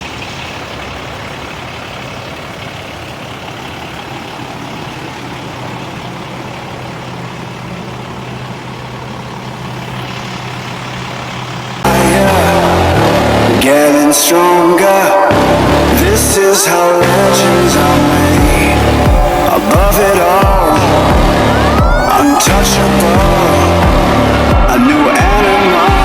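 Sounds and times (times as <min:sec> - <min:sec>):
fire engine idling: 0:00.0 - 0:26.0.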